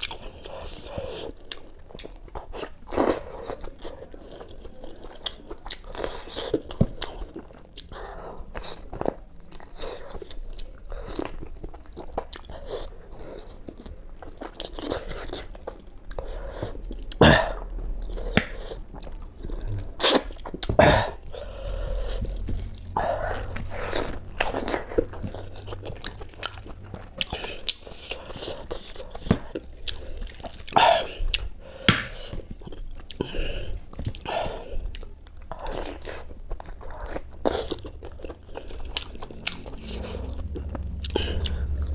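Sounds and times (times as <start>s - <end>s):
man chewing and biting: 0.0s - 41.9s.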